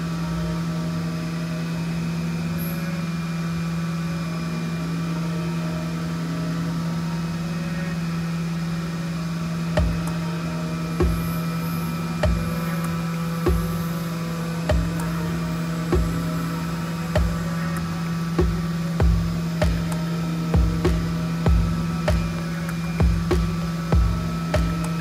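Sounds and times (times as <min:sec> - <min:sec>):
milling machine cutting metal: 0:00.0 - 0:25.0.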